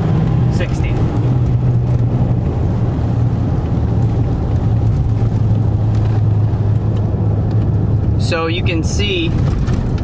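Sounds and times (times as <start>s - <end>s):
diesel engine drone: 0.0s - 10.0s
road noise: 0.0s - 10.0s.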